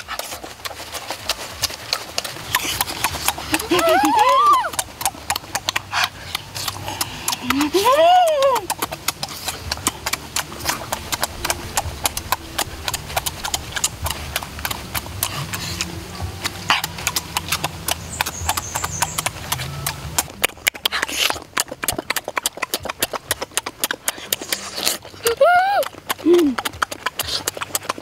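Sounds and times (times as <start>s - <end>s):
open-mouthed chewing: 0.0s - 28.0s
wet lip-smacking clicks: 0.0s - 28.0s.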